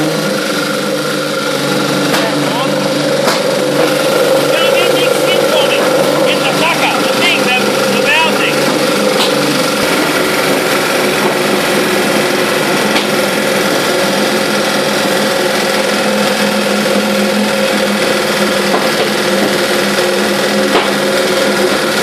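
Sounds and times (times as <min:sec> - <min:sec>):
race engine idling: 0:00.0 - 0:22.0.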